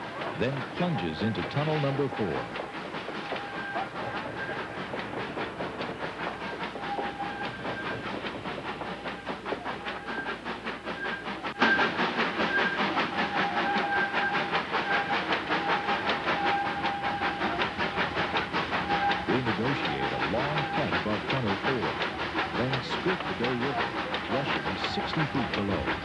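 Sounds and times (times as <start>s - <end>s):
steam locomotive exhaust beat: 0.0s - 26.0s.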